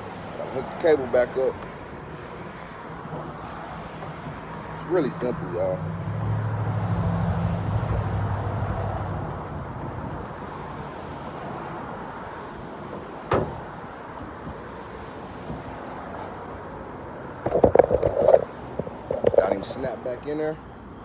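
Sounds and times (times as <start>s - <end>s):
low vehicle hum: 0.0s - 21.0s
outdoor noise: 0.0s - 21.0s.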